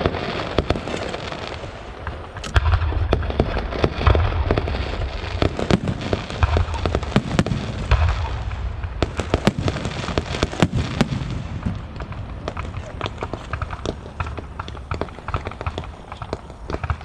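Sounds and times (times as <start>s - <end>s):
deep firework booms: 0.0s - 17.0s
firecrackers crackling: 0.0s - 17.0s.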